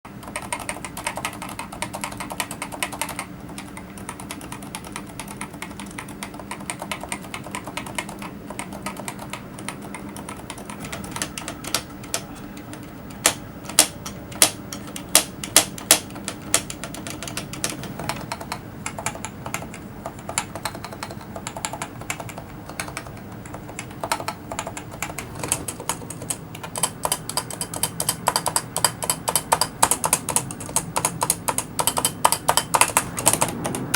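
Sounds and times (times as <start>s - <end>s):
keyboard key clicks: 0.2s - 33.9s.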